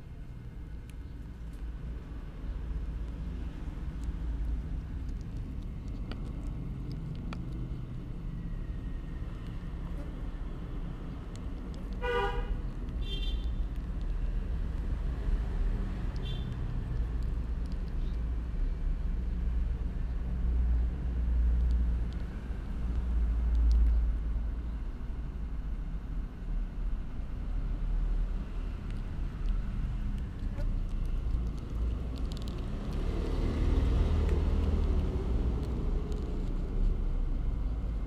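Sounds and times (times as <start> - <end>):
road traffic rumble: 0.0 - 38.0.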